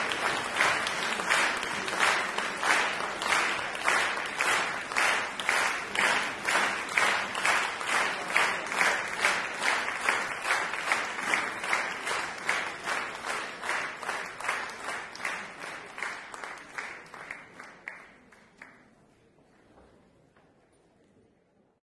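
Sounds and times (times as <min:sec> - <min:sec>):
audience clapping in unison: 0:00.0 - 0:19.0.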